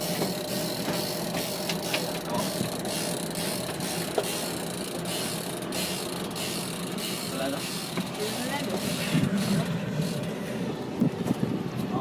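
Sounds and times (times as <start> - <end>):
fishing reel ticking: 0.0 - 10.3
rushing background noise: 0.0 - 12.0.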